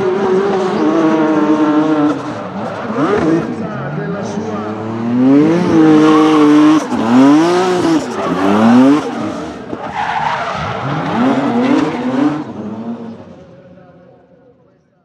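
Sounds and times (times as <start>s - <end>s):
tyres squealing and skidding: 0.0s - 13.4s
car engine revving: 0.0s - 13.5s.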